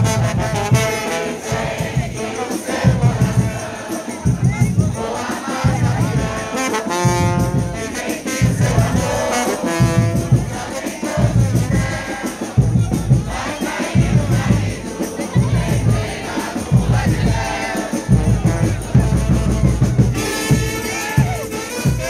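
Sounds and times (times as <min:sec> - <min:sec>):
trombones and trumpets holding chords: 0:00.0 - 0:04.0, 0:05.0 - 0:22.0
heavy low drum beat: 0:00.0 - 0:22.0.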